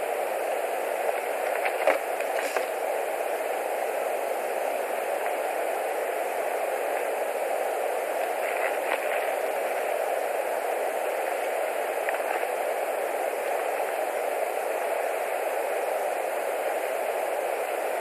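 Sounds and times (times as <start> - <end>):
static-like microphone hiss: 0.0 - 18.0.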